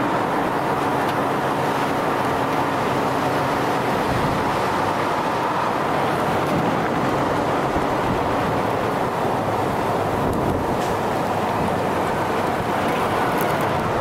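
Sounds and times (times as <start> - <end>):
rushing wind on microphone: 0.0 - 14.0.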